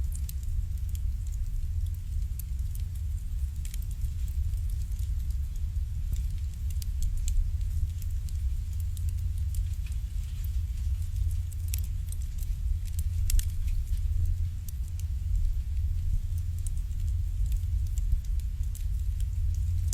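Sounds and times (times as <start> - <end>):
fire crackling and popping: 0.0 - 19.9
low fire rumble: 0.0 - 19.9.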